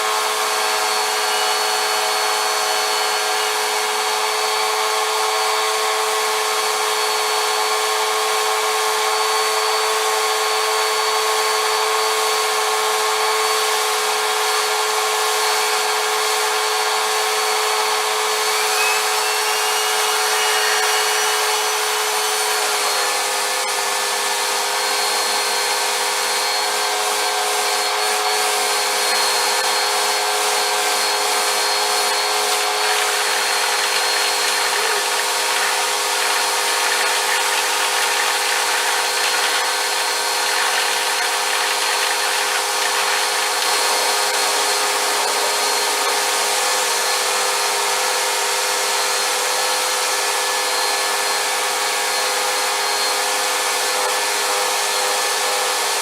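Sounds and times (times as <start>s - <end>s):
vacuum cleaner motor whining: 0.0s - 56.0s.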